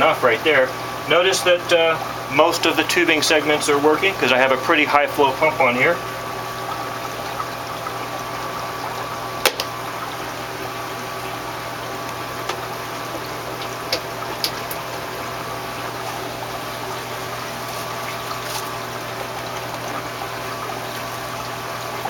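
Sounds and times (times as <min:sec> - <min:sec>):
water running: 0:00.0 - 0:22.0
air bubbling: 0:01.9 - 0:22.0.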